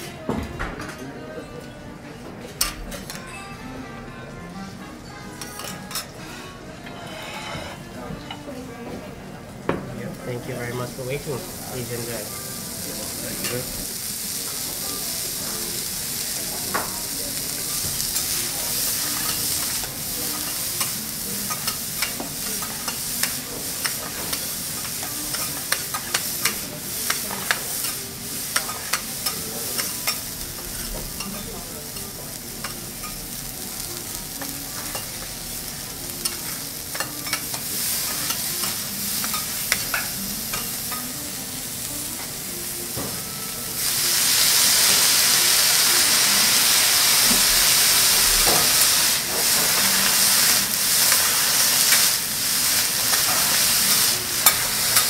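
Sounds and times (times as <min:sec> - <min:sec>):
food sizzling on griddle: 0:09.7 - 0:55.0.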